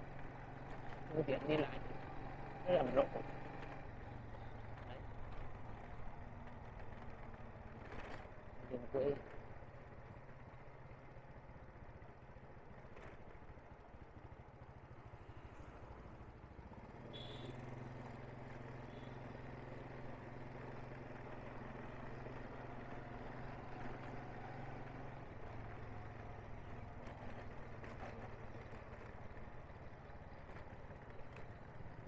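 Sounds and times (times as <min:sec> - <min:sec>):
small motorbike engine running: 0:00.0 - 0:10.5, 0:14.2 - 0:32.0
road noise: 0:00.0 - 0:32.0.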